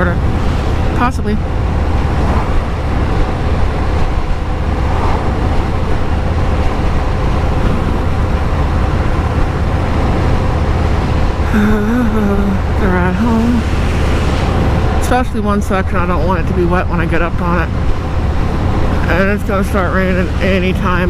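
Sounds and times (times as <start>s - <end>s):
wind rush: 0.0s - 11.6s, 12.5s - 21.0s
motorcycle engine rumble: 0.0s - 21.0s
road noise: 0.0s - 21.0s.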